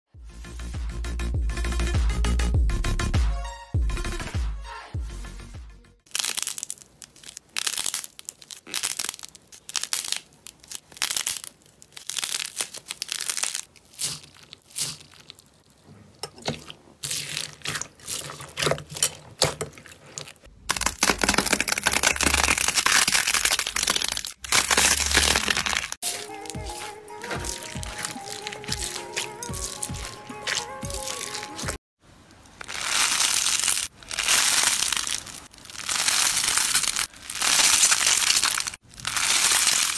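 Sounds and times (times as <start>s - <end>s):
crunchy slime crackling: 6.1s - 15.8s, 16.7s - 19.1s, 19.7s - 39.9s.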